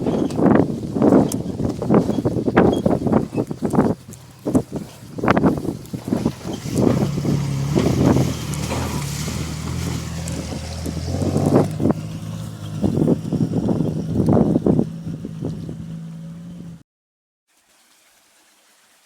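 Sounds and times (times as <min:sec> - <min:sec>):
vehicle engine running at low revs: 0:00.7 - 0:16.8.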